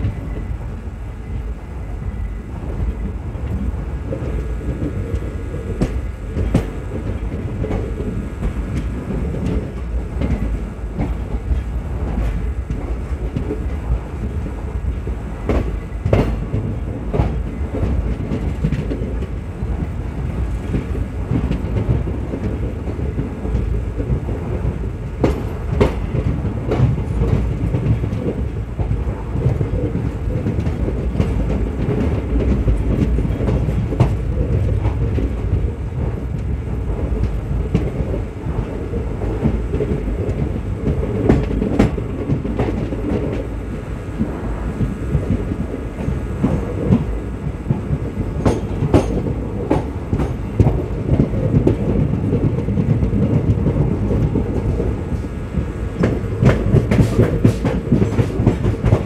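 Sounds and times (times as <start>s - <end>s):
rail joint clacks: 0.0s - 59.0s
train wheels rumbling on rail: 0.0s - 59.0s.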